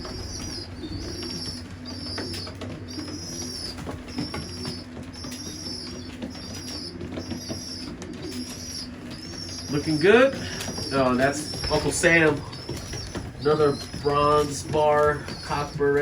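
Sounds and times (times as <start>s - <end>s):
pigeons cooing: 0.0s - 16.0s
pigeons peeping: 0.0s - 16.0s
wing flutters: 0.0s - 16.0s.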